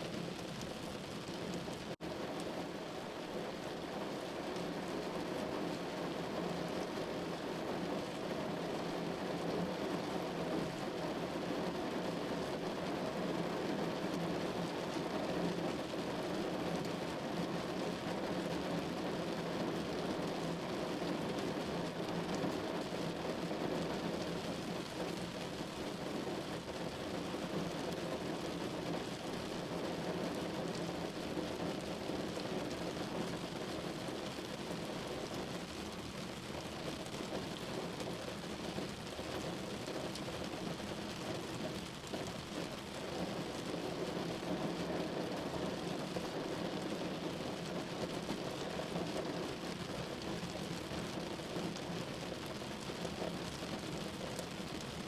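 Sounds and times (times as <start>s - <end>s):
rain on a window pane: 0.0s - 55.0s.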